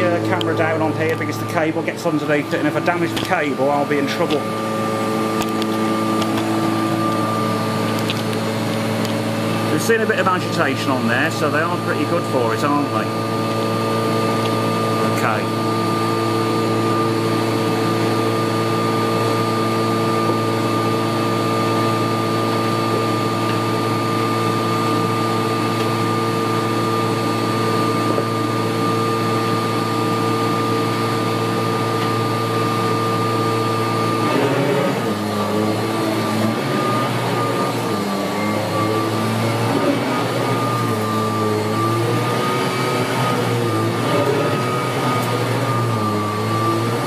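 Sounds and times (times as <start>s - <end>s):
vacuum cleaner motor whine: 0.0s - 47.0s.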